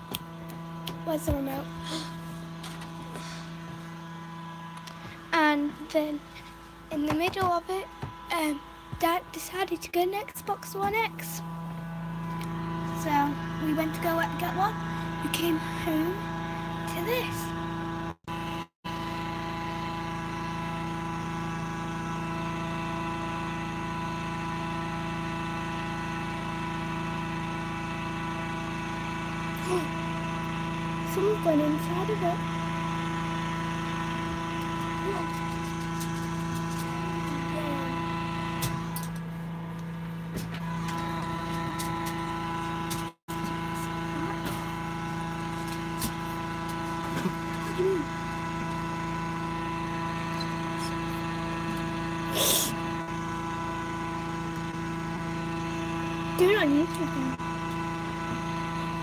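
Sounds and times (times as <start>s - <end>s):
inflator fan engine running: 0.0s - 59.0s.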